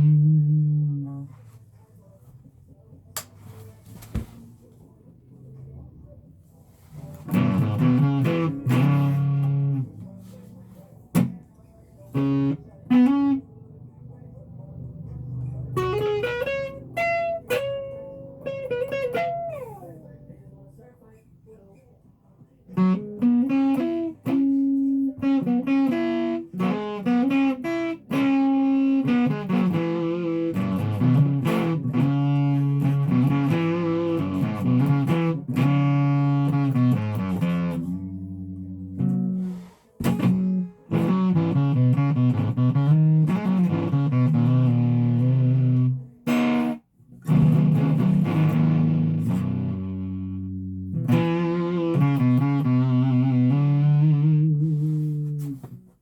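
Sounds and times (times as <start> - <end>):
guitar playing: 0.0 - 1.5, 7.1 - 20.9, 22.7 - 56.0.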